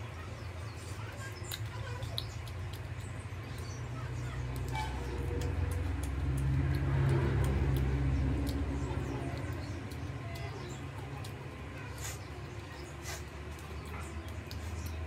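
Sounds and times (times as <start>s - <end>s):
wet mouth clicks and smacks: 1.2s - 15.0s.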